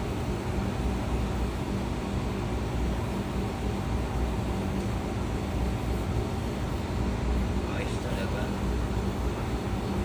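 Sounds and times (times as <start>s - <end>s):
constant hum tones: 0.0s - 10.0s
low machinery drone: 0.0s - 10.0s.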